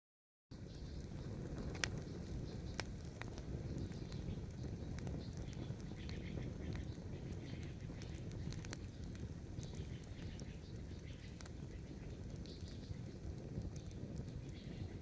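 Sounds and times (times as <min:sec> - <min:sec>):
campfire crackling and popping: 0:00.5 - 0:15.0.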